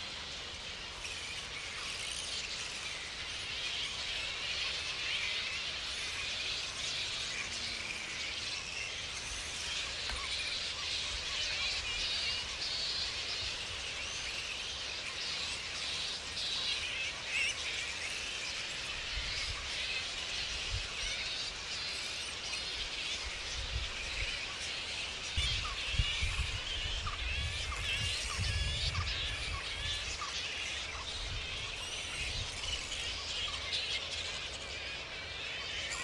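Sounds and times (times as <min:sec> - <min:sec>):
flying foxes squeaking: 0:00.0 - 0:36.0.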